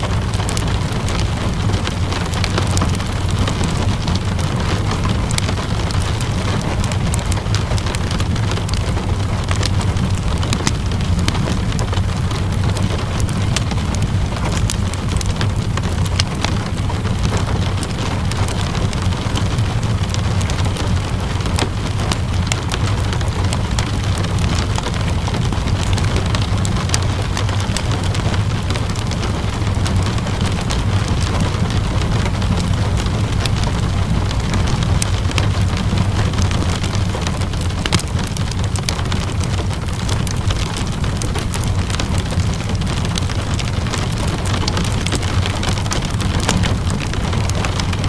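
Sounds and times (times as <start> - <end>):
steady rain: 0.0 - 48.0
fireplace crackles: 0.1 - 48.0.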